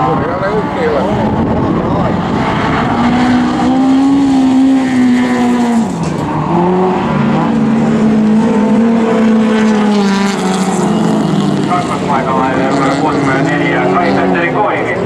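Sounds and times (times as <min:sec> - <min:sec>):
race car engine at high revs: 0:00.0 - 0:15.0
second car engine: 0:00.0 - 0:15.0.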